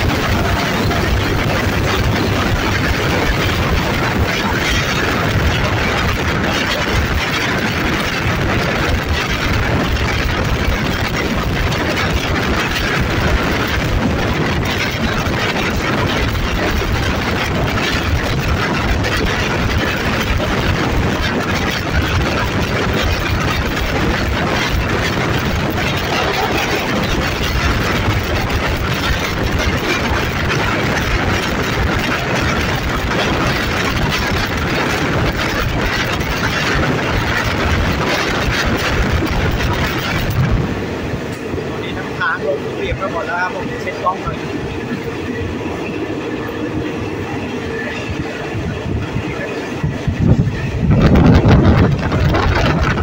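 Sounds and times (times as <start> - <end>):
diesel locomotive engine: 0.0 - 53.0
moving train noise: 0.0 - 53.0.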